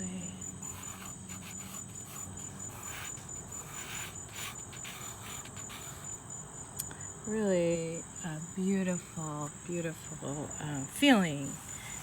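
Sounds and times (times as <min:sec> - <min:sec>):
cricket trilling: 0:00.0 - 0:12.0.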